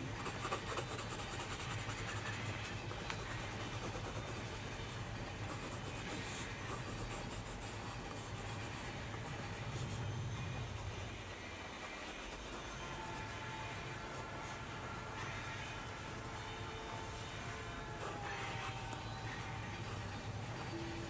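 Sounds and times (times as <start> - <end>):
pencil scratching on paper: 0.0 - 21.0
steady low hum: 0.0 - 21.0.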